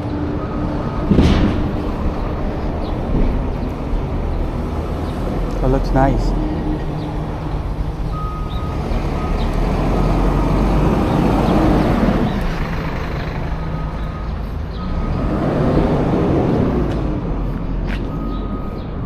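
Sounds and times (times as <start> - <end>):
vehicles passing on road: 0.0 - 19.0.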